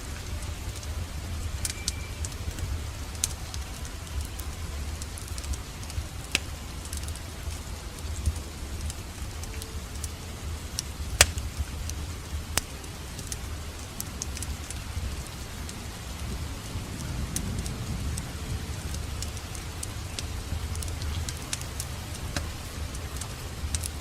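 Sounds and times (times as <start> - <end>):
fire crackling and popping: 0.0 - 24.0
low rumble of flame: 0.0 - 24.0.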